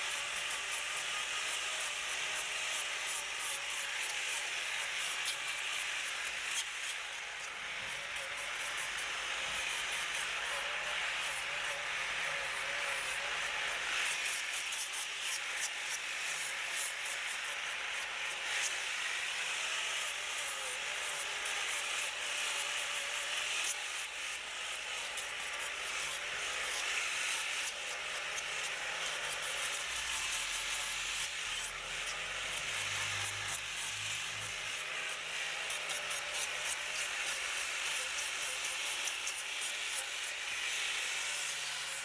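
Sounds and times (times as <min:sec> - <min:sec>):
hand tool rasping wood: 0:00.0 - 0:42.0.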